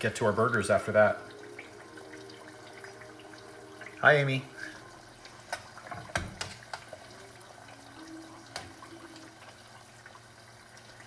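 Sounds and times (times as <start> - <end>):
fries bubbling in oil: 0.0 - 11.0.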